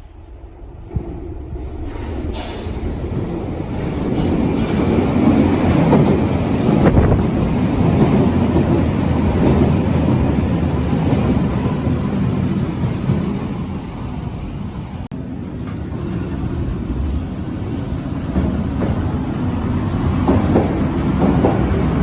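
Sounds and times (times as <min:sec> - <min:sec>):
train rushing rumble: 0:00.0 - 0:22.0.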